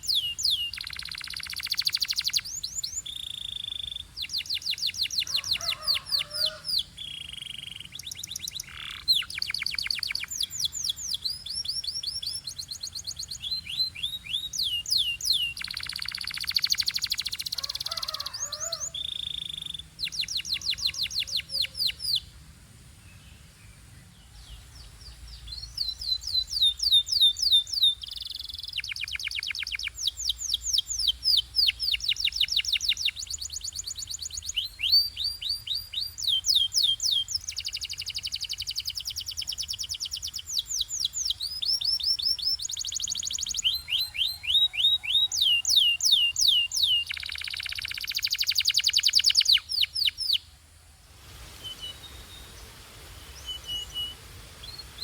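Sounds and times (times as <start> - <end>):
canary singing: 0.0 - 22.3, 25.4 - 50.4.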